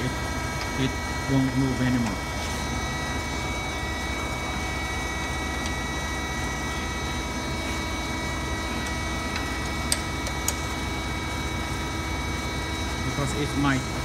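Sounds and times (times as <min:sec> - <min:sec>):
machine hum with steady tones: 0:00.0 - 0:14.0.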